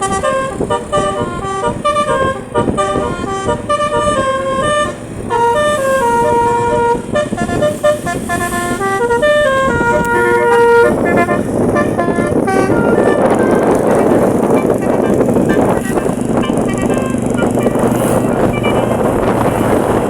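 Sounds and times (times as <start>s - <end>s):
bus musical horn melody: 0.0s - 20.0s
rushing road noise: 0.0s - 20.0s.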